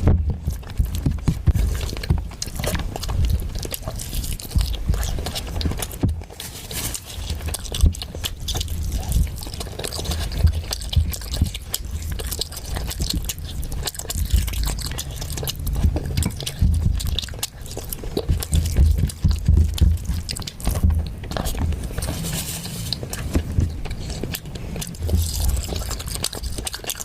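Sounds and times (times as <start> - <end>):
wet chewing: 0.0 - 27.0.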